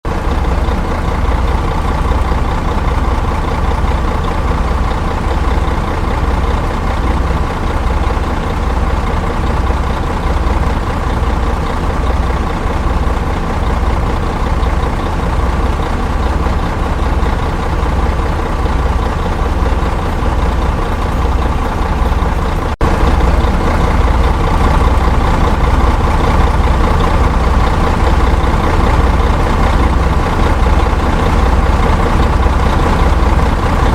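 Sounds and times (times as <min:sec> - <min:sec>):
bus engine idling: 0:00.0 - 0:33.9.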